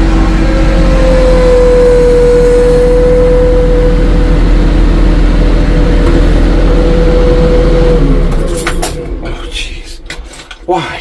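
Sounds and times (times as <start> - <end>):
constant whine: 0.0 - 11.0
vehicle engine running: 0.0 - 11.0.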